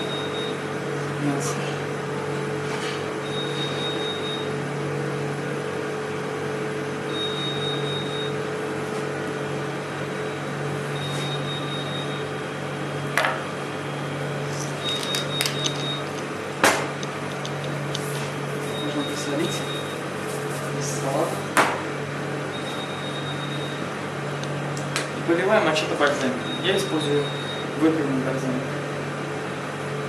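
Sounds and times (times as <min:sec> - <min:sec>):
kitchen equipment hum: 0:00.0 - 0:30.0.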